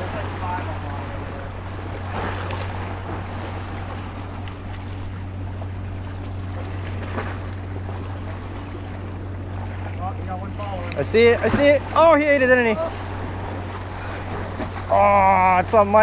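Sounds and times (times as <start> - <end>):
ocean waves breaking on boulders: 0.0 - 16.0
steady low hum: 0.0 - 16.0.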